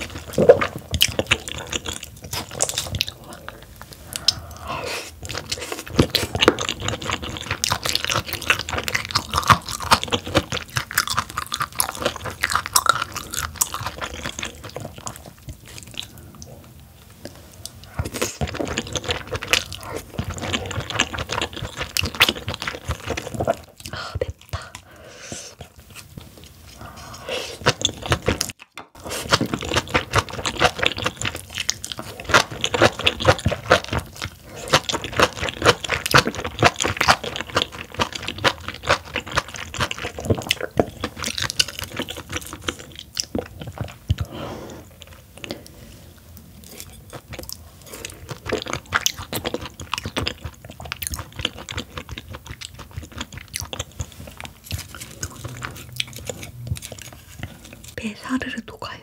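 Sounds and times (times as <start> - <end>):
crisp crunchy chewing: 0.0 - 58.0.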